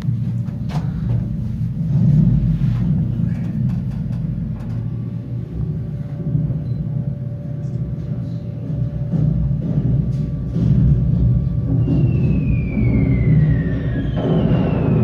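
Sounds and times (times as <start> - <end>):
loud continuous low rumble: 0.0 - 15.0.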